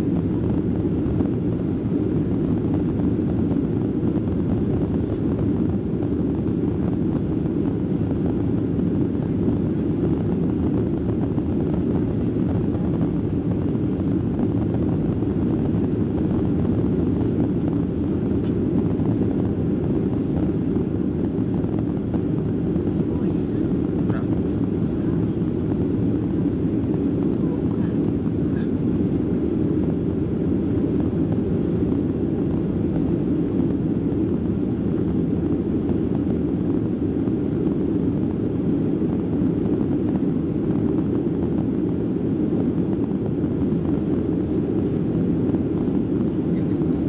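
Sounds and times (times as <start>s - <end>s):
jet airliner cabin drone: 0.0s - 47.0s.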